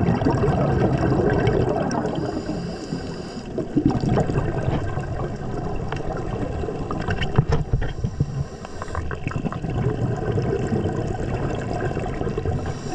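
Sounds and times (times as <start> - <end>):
underwater rushing and gurgling: 0.0 - 12.9.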